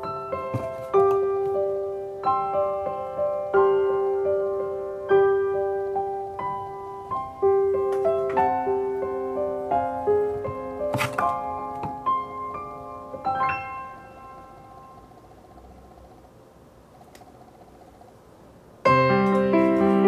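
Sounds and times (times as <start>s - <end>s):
piano melody: 0.0s - 16.0s, 18.8s - 20.0s.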